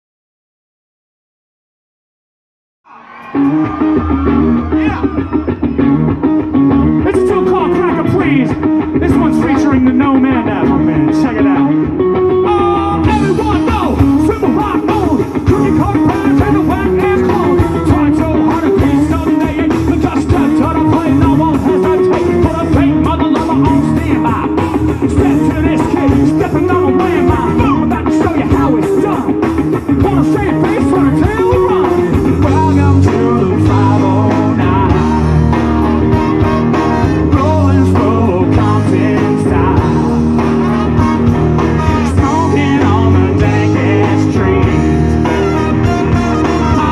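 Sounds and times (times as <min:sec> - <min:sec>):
drums: 0:02.9 - 0:46.9
electric guitar: 0:02.9 - 0:46.9
bass guitar: 0:03.2 - 0:46.9
person singing into microphone: 0:07.0 - 0:46.9.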